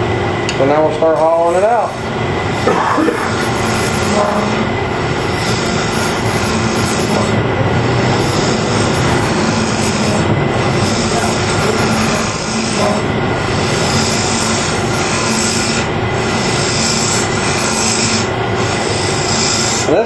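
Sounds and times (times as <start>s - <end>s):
lathe motor hum: 0.0s - 20.0s
lathe tool cutting wood: 1.2s - 20.0s.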